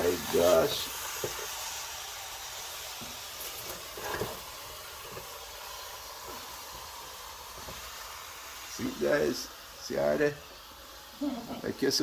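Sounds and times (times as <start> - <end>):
pot sizzling on stove: 0.0 - 12.0.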